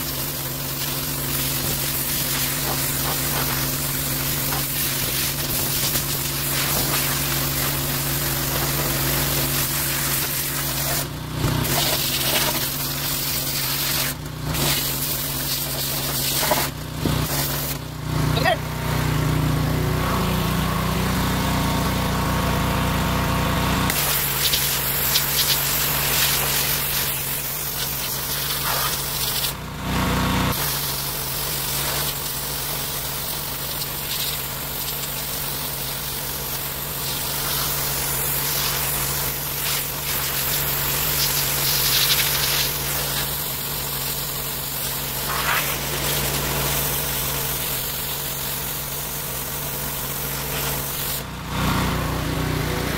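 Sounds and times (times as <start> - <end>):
water spraying against metal: 0.0 - 17.9, 23.9 - 29.6, 30.5 - 51.3
pressure washer engine running: 0.0 - 52.9.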